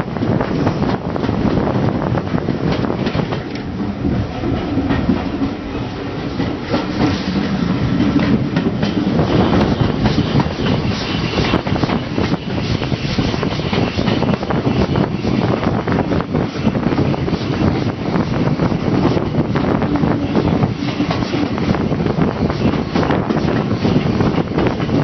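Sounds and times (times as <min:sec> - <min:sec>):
train wheels clattering on track: 0:00.0 - 0:25.0.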